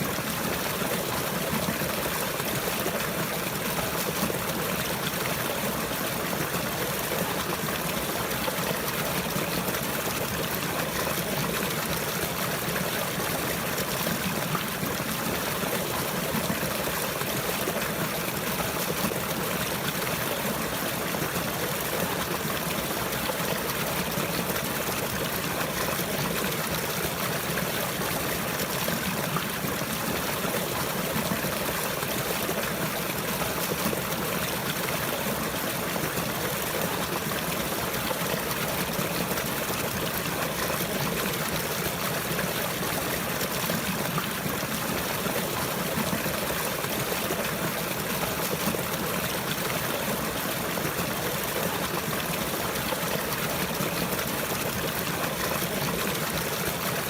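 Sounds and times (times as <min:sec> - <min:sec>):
trickling flowing water: 0:00.0 - 0:57.0.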